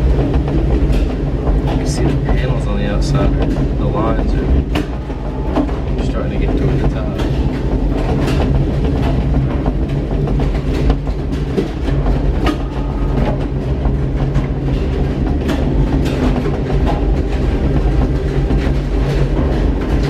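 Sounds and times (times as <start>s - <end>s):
tram capsule rumble: 0.0s - 20.0s
clicks and clanks: 0.1s - 20.0s.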